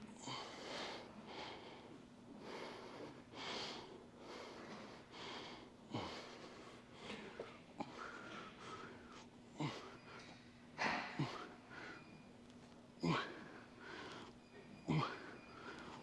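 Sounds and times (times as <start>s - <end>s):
man breathing hard: 0.2s - 12.2s, 13.0s - 16.0s.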